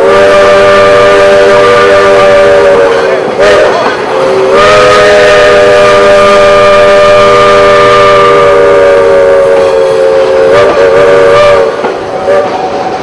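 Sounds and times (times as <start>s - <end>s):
steam locomotive chime whistle: 0.0s - 13.0s.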